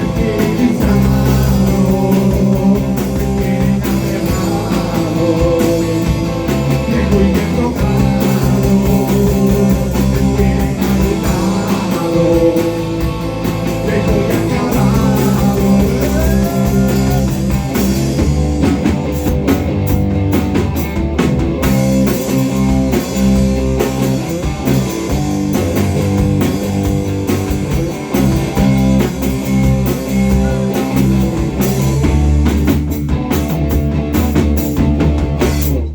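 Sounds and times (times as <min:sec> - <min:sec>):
rock band playing: 0:00.0 - 0:35.9.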